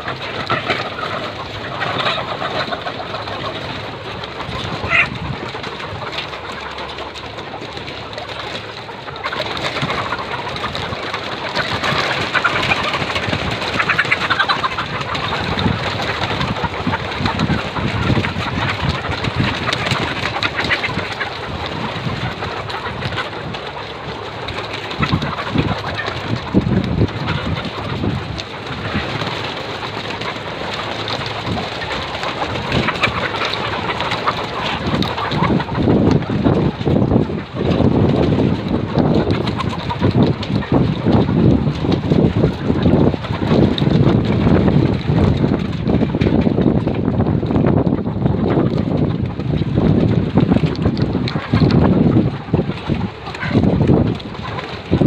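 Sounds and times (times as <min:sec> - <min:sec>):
hens clucking: 0:00.0 - 0:55.0.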